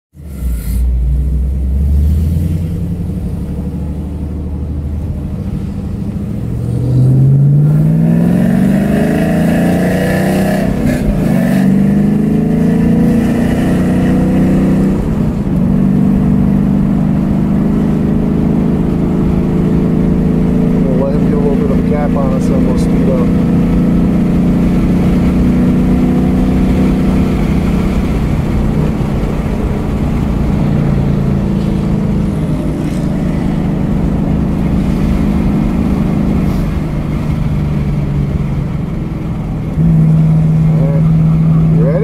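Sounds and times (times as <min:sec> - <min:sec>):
car engine revving through gears: 0:00.2 - 0:42.0.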